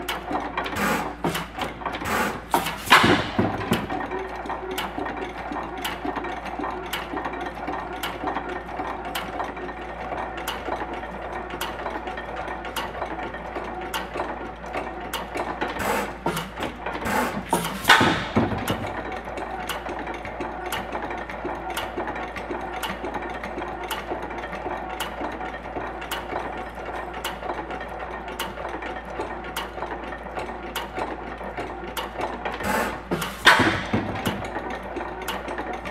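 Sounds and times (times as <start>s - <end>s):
stationary gas engine running: 0.0s - 35.9s.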